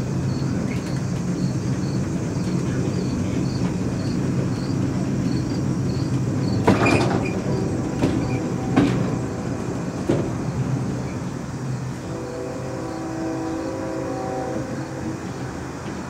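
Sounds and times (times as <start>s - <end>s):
funicular car low rumble: 0.0s - 16.0s.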